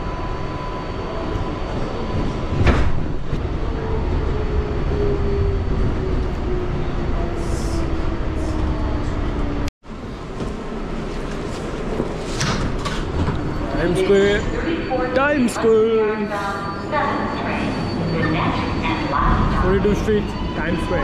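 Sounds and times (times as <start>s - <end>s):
subway car rumbling: 0.0s - 21.0s.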